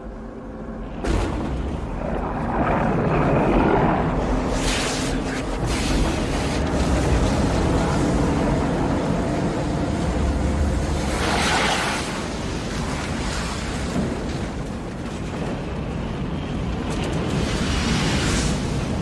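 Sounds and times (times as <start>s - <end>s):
strong wind rumbling: 0.0s - 19.0s.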